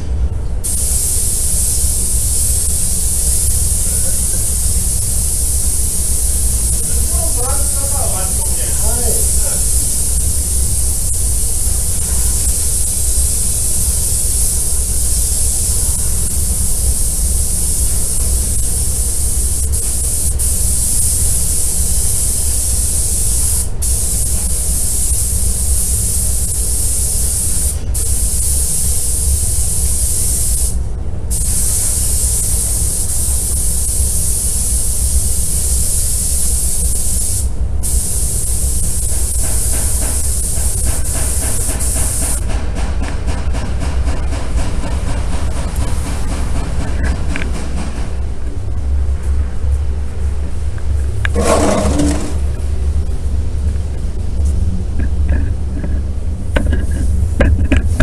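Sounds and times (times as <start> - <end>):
compressed air gun hissing: 0.6 - 48.1, 51.3 - 52.4.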